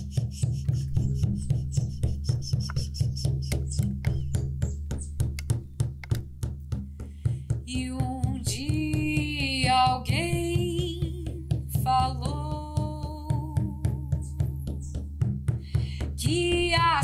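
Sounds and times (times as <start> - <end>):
frame drums beating: 0.0 - 17.0.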